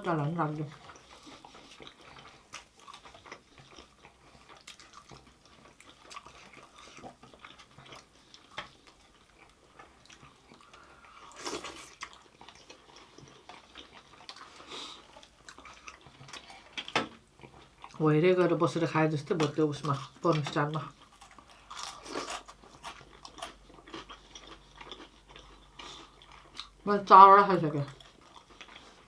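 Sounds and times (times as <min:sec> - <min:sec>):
chewing with mouth clicks: 0:00.5 - 0:18.1, 0:19.2 - 0:26.9, 0:27.8 - 0:29.0
food crunches: 0:01.8 - 0:18.0, 0:19.4 - 0:26.8.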